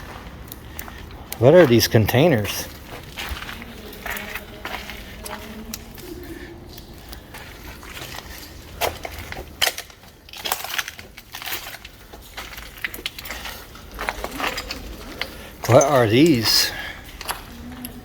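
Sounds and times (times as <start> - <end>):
footsteps crunching over debris: 0.0 - 18.0.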